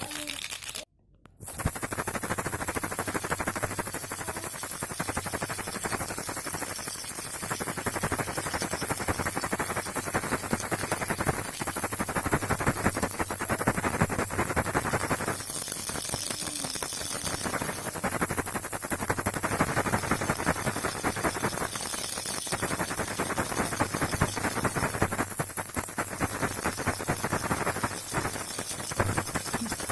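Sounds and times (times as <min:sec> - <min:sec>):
baby rattle beads clattering: 0:00.0 - 0:29.9.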